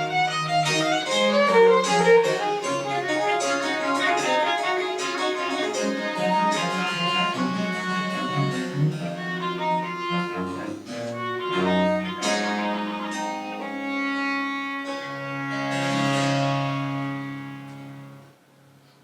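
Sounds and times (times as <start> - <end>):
baroque chamber music: 0.0 - 18.4.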